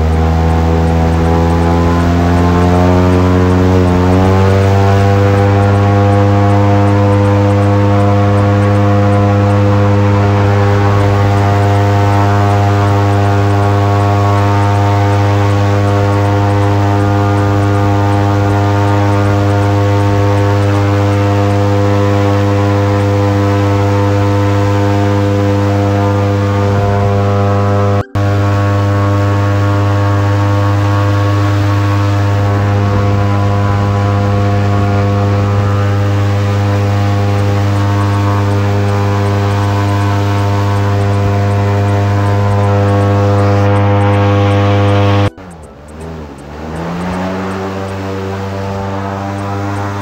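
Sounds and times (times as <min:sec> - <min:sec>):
airboat engine and propeller drone: 0:00.0 - 0:50.0.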